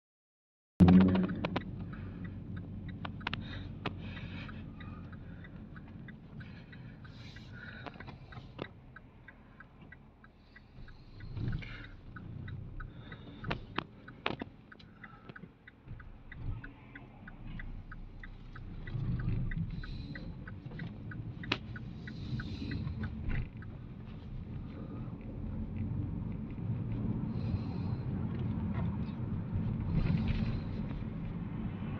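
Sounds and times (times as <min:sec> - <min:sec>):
engine and road rumble: 0:00.8 - 0:31.9
quick evenly spaced ticks: 0:01.1 - 0:28.4.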